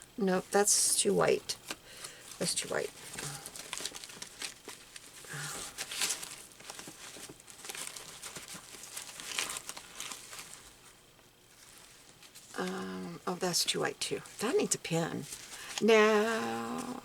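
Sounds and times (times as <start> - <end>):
hands rustling through lace scraps: 1.6 - 17.0.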